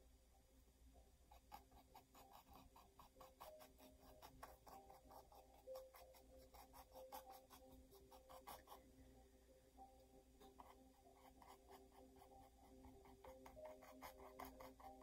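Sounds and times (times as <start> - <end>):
paintbrush dabbing on canvas: 1.3 - 8.9, 10.4 - 15.0.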